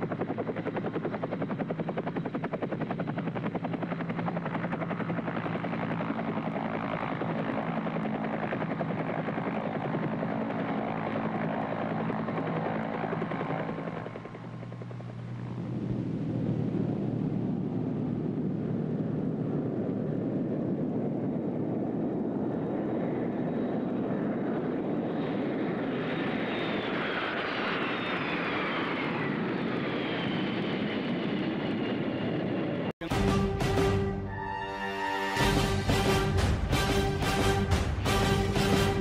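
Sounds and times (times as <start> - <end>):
aircraft engine rush: 0.0 - 39.0
high engine whine: 0.0 - 39.0.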